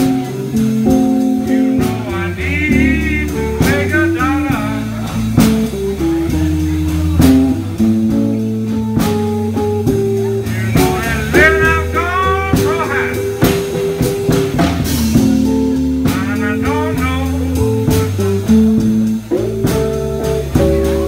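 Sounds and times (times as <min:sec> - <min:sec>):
bass line: 0:00.0 - 0:21.0
drum kit strokes: 0:00.0 - 0:21.0
electric guitar bent lead notes: 0:00.0 - 0:21.0.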